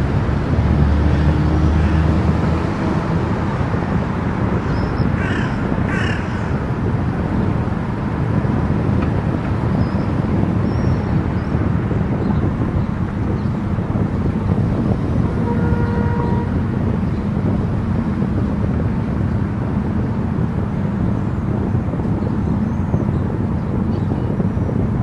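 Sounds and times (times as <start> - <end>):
car driving on expressway: 0.0 - 25.0.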